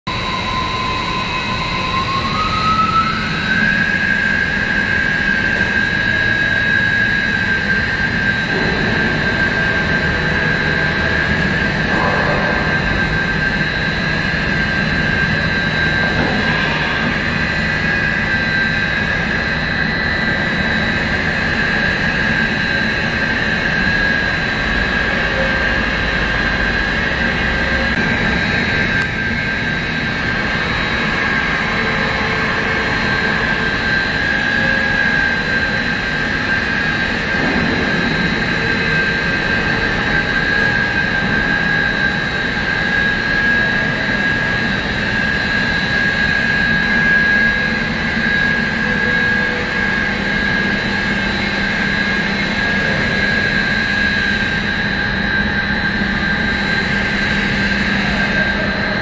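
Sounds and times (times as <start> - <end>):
constant low hum: 0.1 - 59.0.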